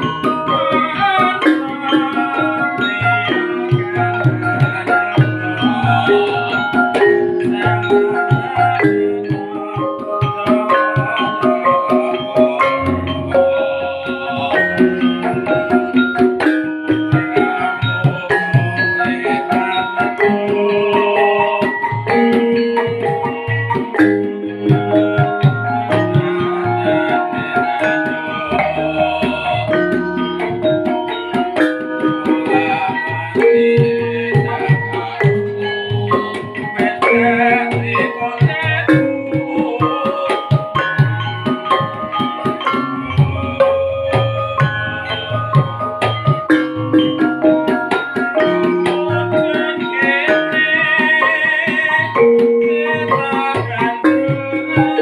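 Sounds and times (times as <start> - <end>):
hand drums: 0.0 - 55.0
struck keyed metallophone notes: 0.0 - 55.0.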